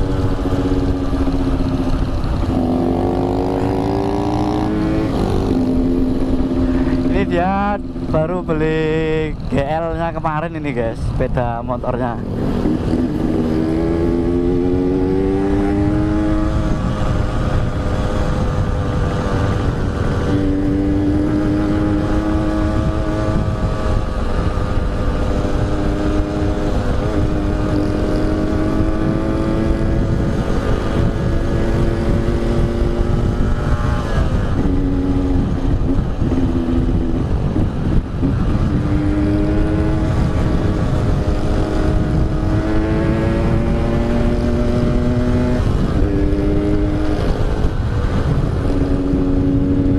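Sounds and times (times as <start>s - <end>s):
motorcycle engine accelerating: 0.0s - 49.9s
wind rushing: 0.0s - 49.9s.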